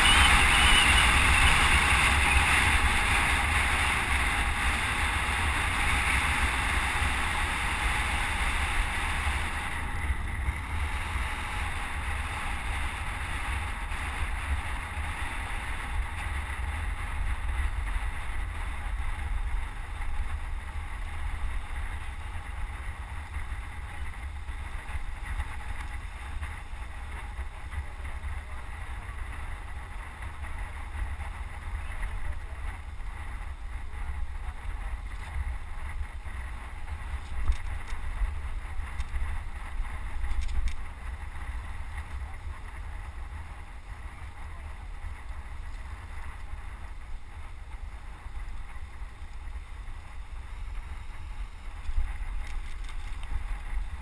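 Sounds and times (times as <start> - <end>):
low road rumble: 0.0 - 54.0
wind buffeting camera: 0.0 - 54.0.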